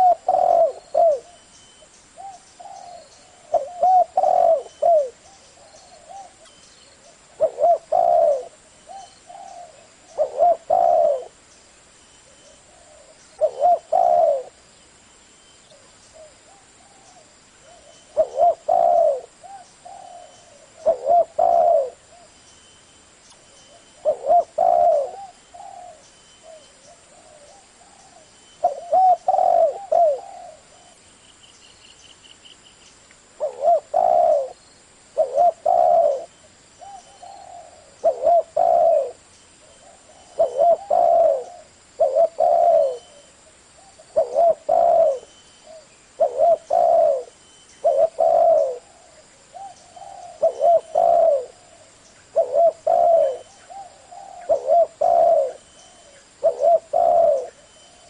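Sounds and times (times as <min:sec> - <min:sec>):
dove cooing: 0:00.0 - 0:11.4, 0:12.3 - 0:14.6, 0:15.7 - 0:22.4, 0:23.7 - 0:31.0, 0:33.4 - 0:58.0.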